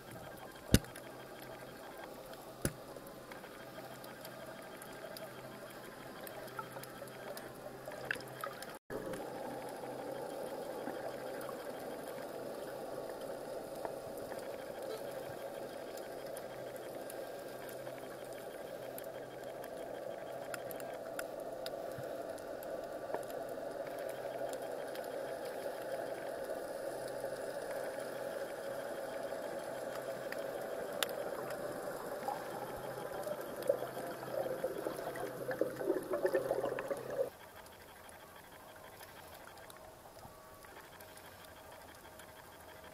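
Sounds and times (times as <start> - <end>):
faint low hum: 0.0 - 42.9
muffled underwater noise: 0.0 - 42.9.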